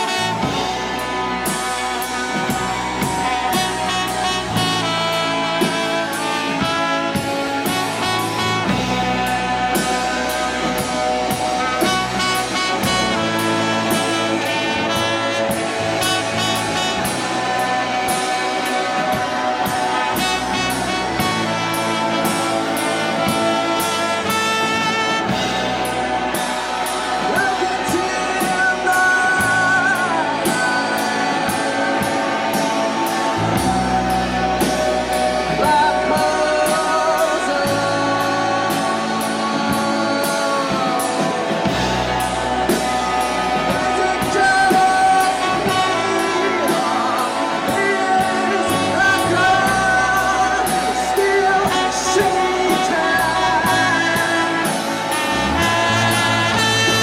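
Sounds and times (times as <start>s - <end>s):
bass line: 0.0s - 57.0s
drum kit beat: 0.0s - 57.0s
gliding melodic lead line: 0.0s - 57.0s
guitar: 0.0s - 57.0s.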